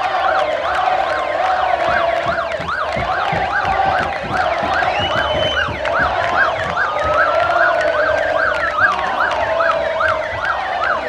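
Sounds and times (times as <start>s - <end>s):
crowd noise: 0.0s - 11.0s
wailing siren: 0.0s - 11.0s
yelping siren: 0.0s - 11.0s.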